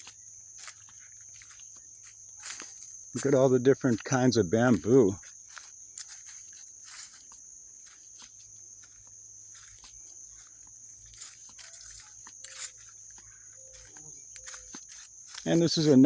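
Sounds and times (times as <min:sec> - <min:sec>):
soft footsteps or rustles: 0:00.0 - 0:04.1, 0:04.7 - 0:16.0
crickets trilling: 0:00.0 - 0:16.0.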